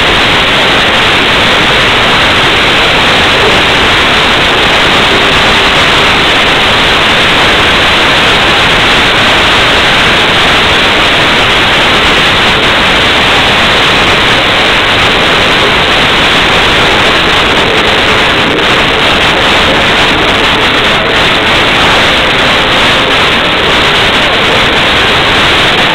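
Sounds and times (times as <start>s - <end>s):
loud static hiss: 0.0s - 25.9s.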